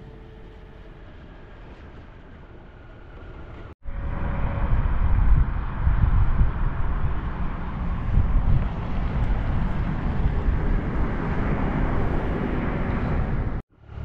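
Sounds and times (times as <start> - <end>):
faint road noise: 0.0 - 14.0
wind rushing over microphone: 1.4 - 13.6.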